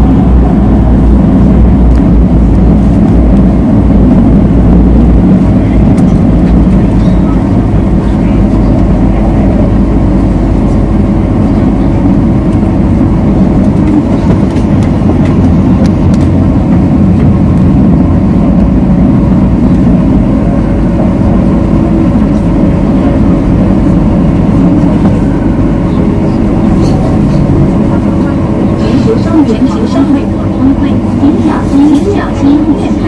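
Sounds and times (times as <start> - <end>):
low running gear hum: 0.0 - 33.0
train wheels rumbling on rail: 0.0 - 33.0.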